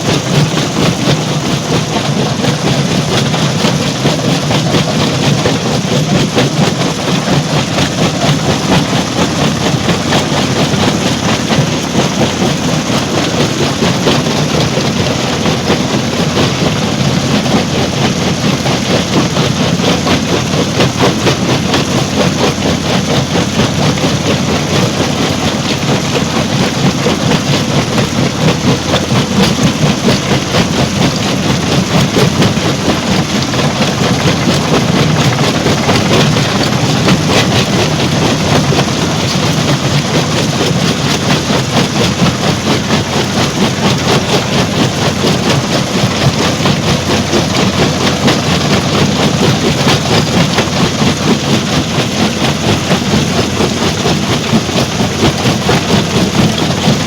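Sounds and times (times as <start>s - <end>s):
stone crusher machinery rattling: 0.0s - 57.0s.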